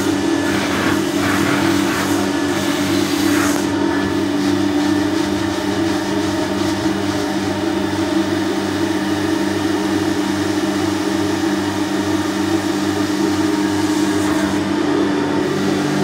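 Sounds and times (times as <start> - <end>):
carpet extraction machine motor hum: 0.0 - 16.0.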